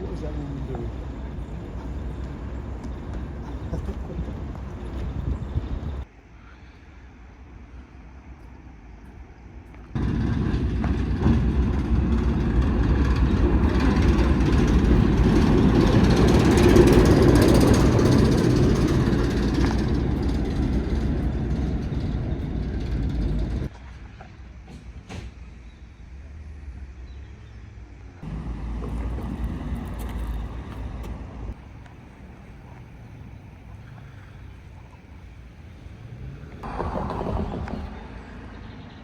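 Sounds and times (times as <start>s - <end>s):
train rumbling past: 0.0s - 6.1s, 9.9s - 26.9s, 27.7s - 39.0s.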